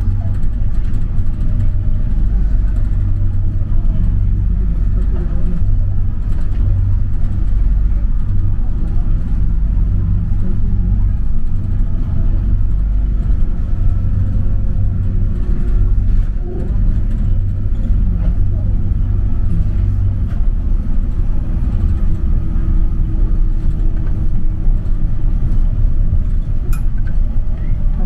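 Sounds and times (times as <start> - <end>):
rail car rumble: 0.0 - 28.0.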